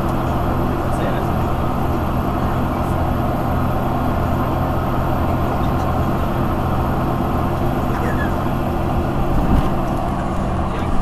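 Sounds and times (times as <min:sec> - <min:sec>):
diesel bus engine drone: 0:00.0 - 0:11.0.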